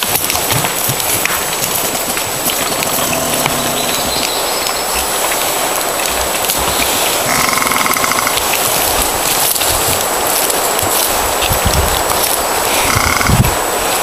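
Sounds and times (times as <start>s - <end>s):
hooves thudding on dirt: 0.0s - 14.0s
steady loud hiss: 0.0s - 14.0s.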